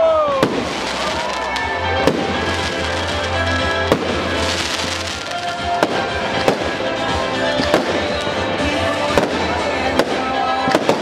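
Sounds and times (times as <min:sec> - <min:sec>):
music: 0:00.0 - 0:11.0
fireworks bursting: 0:00.3 - 0:11.0.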